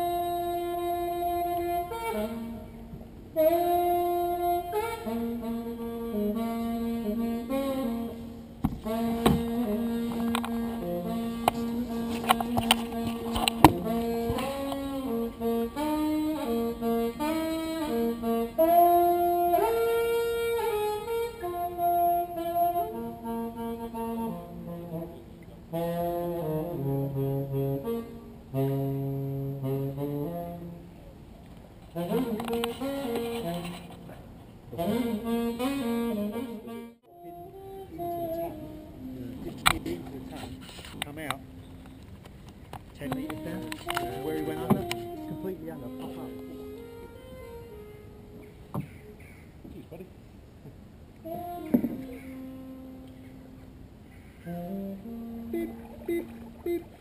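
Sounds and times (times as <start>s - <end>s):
solo saxophone melody: 0.0s - 42.1s, 43.0s - 49.2s, 51.1s - 57.0s.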